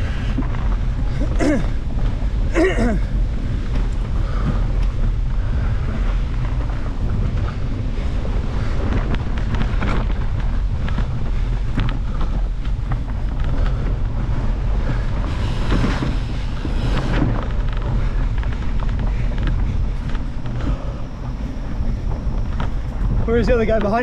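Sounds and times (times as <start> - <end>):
bike clicks and rattles: 0.0 - 24.0
tyres rumbling on dirt: 0.0 - 24.0
wind buffeting microphone: 0.0 - 24.0.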